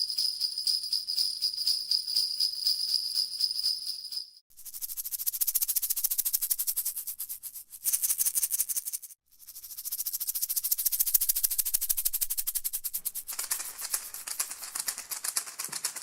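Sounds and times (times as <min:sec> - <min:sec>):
shaker rattling: 0:00.0 - 0:16.0.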